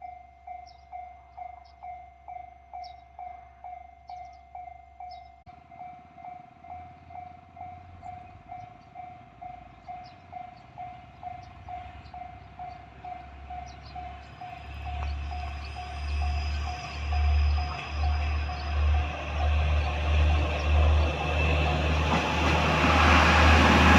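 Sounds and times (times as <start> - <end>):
diesel railcar rumble: 0.0 - 23.9.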